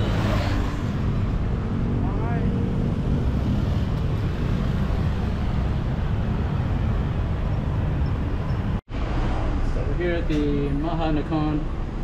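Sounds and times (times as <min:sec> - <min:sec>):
motorbike and car engines passing: 0:00.0 - 0:09.6
city street traffic rumble: 0:00.0 - 0:12.0.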